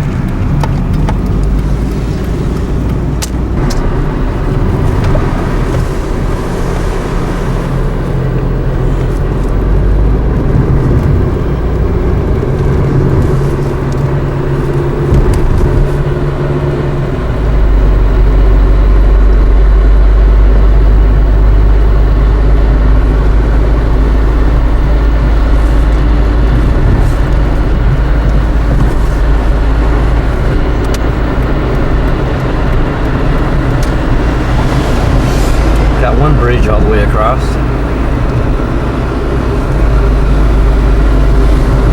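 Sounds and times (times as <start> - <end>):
car engine hum: 0.0 - 41.9
deep low rumble: 0.0 - 41.9
road rumble: 0.0 - 41.9.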